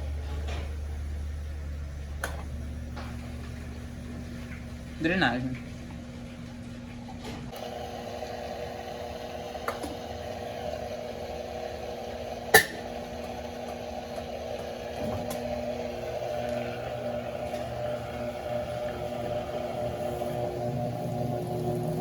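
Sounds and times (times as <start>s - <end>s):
drain pump humming: 0.0s - 22.0s.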